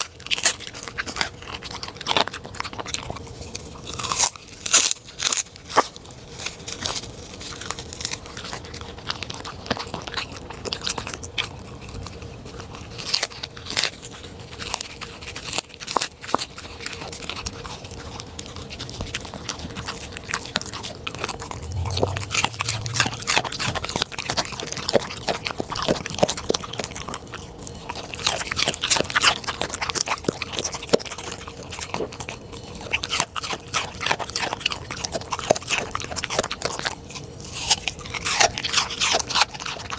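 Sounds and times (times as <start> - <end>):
dog chewing and crunching food: 0.0 - 39.9.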